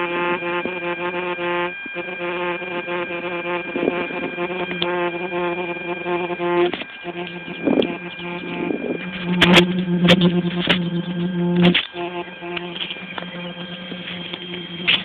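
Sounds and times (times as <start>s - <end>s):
electric motor buzzing: 0.0s - 15.0s.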